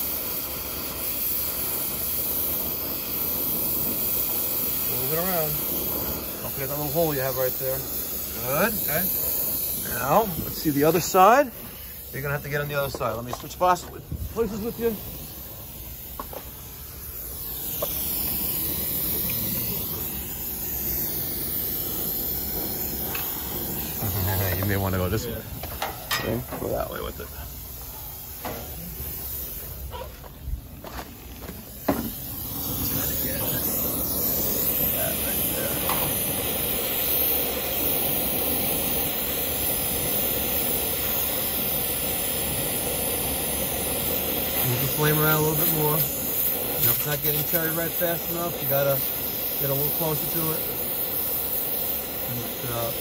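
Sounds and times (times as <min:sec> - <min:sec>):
torch flame hissing: 0:00.0 - 0:53.0.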